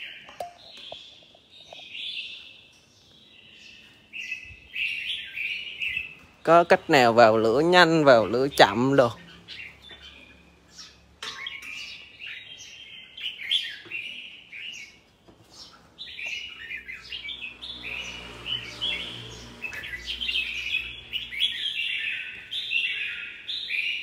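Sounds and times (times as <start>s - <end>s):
bulbuls chirping and singing: 0.0s - 24.0s.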